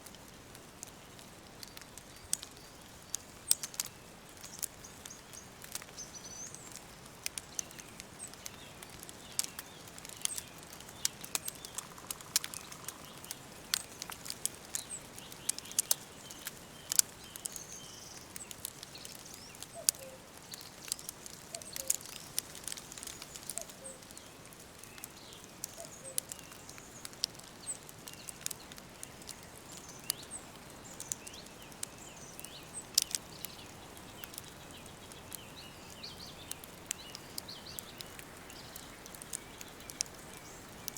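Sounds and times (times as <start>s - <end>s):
sharp crackling clicks: 0.0s - 40.9s
soft steady hiss: 0.0s - 40.9s
small birds chirping: 0.1s - 40.9s.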